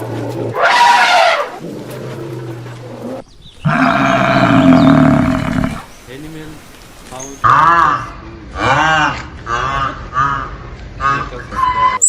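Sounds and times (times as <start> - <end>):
animal calls: 0.0 - 5.9, 7.3 - 12.0.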